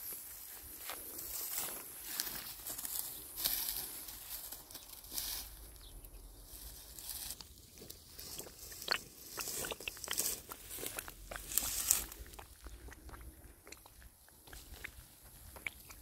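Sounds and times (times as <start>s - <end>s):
footsteps through dry grass: 0.0s - 13.2s.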